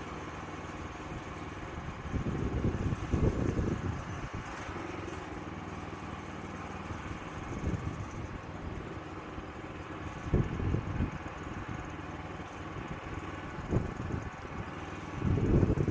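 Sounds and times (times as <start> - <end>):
sawmill engine running: 0.0 - 15.9.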